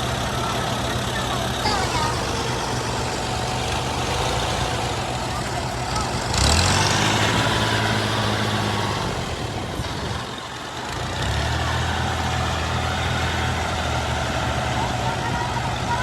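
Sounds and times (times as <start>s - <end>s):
combine harvester diesel engine: 0.0s - 16.0s.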